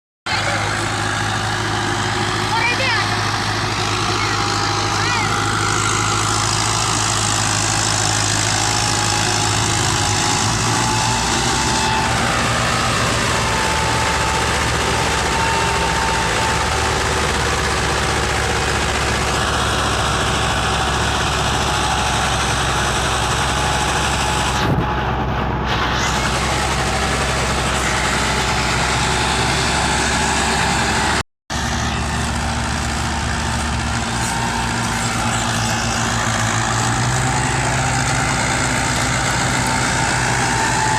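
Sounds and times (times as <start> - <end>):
diesel tractor engine running: 0.3 - 40.9.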